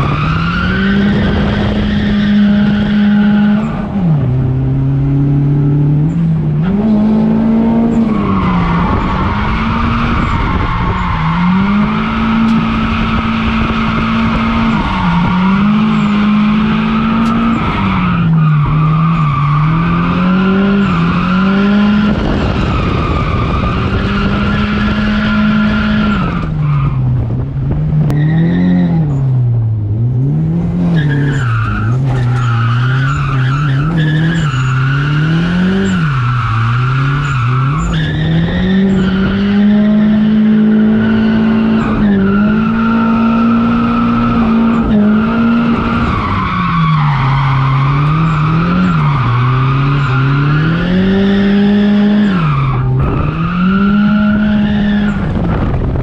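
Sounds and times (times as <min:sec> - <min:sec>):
car engine revving high: 0:00.0 - 0:56.0
tyres skidding: 0:00.0 - 0:56.0.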